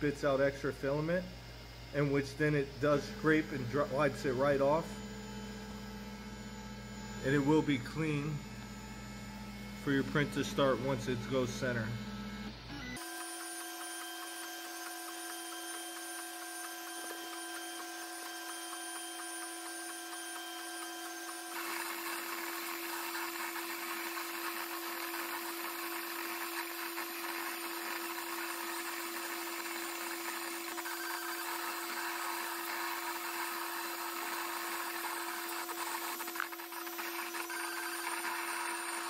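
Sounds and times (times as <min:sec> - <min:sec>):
stepper motors whirring: 0:02.1 - 0:39.0.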